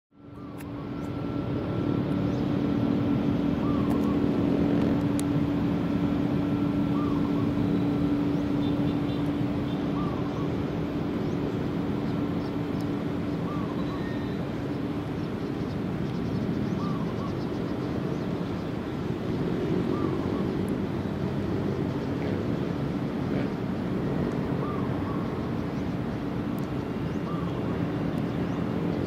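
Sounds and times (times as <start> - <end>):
distant jet airliner rumble: 0.1 - 29.0.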